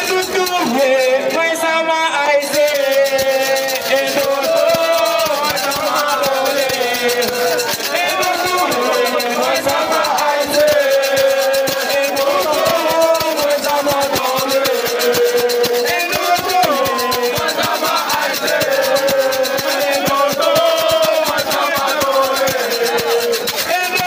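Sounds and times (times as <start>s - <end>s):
fast dense percussion: 0.0s - 1.2s, 2.4s - 24.0s
voices singing together: 0.0s - 24.0s.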